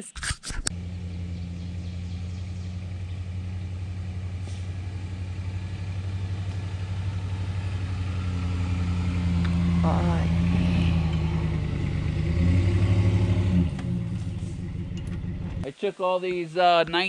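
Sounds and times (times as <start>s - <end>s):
vehicle engine idling: 0.7s - 17.0s.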